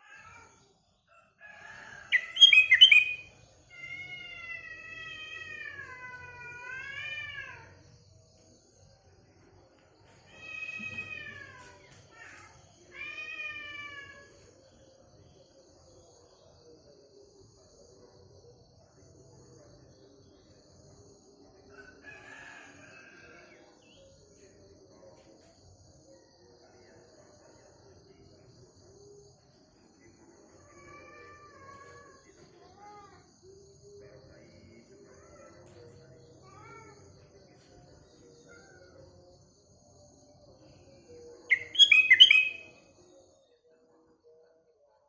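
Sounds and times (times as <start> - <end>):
birds and insects chorus: 0.1 - 44.6.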